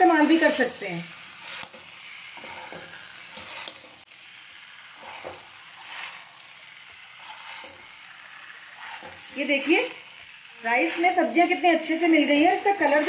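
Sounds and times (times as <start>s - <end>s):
metal spatula scraping pan: 0.0s - 4.1s, 4.8s - 12.0s
light steady sizzle: 0.0s - 13.0s.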